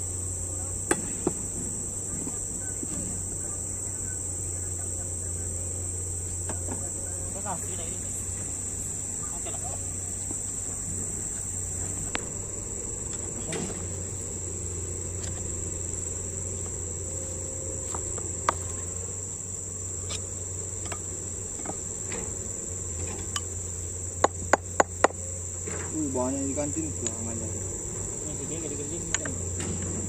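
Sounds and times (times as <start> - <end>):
high-pitched insect chorus: 0.0 - 30.0
low steady hum: 0.0 - 30.0.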